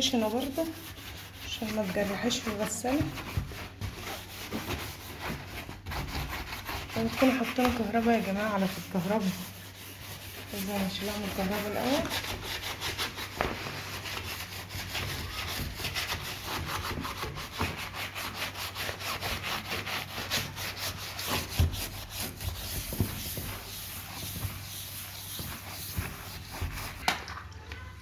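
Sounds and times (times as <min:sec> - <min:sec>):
sponge scrubbing plastic: 0:00.0 - 0:27.5.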